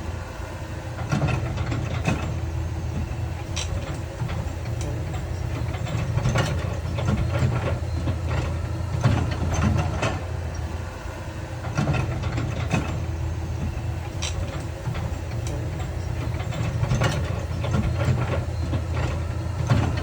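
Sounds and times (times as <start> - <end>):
heavy diesel machinery drone: 0.0 - 20.0.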